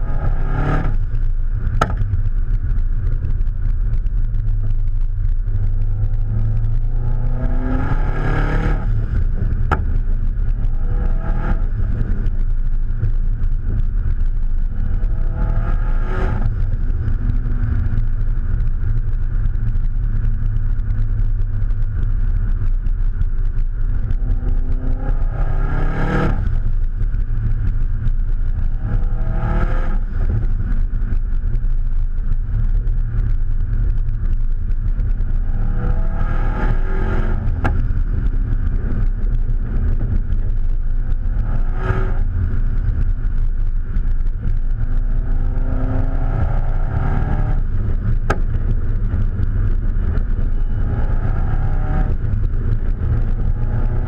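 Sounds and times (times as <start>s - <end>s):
exhaust backfire cracks: 0.0s - 54.0s
turbocharged car engine accelerating: 0.0s - 54.0s.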